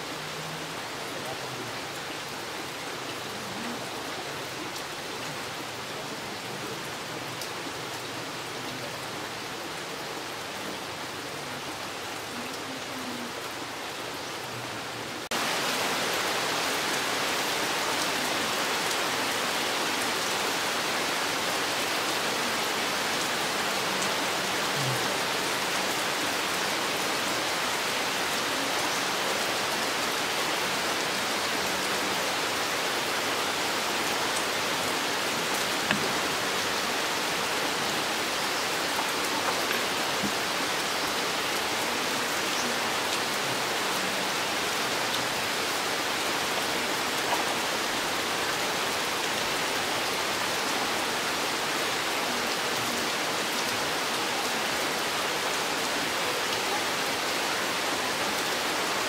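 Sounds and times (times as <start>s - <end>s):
rain on leaves: 0.0s - 59.0s.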